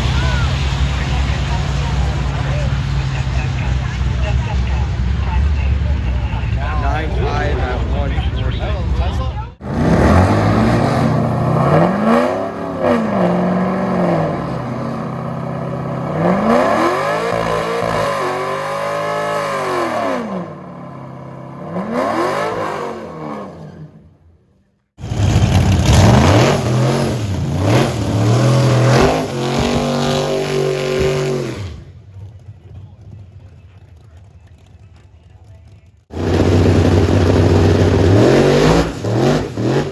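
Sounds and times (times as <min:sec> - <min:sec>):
racing engine revving: 0:00.0 - 0:24.2, 0:25.0 - 0:32.2, 0:36.1 - 0:39.9.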